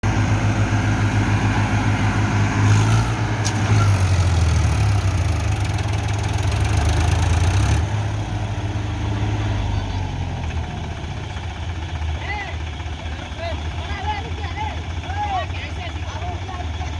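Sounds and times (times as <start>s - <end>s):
tractor diesel engine running hard: 0.0s - 16.9s.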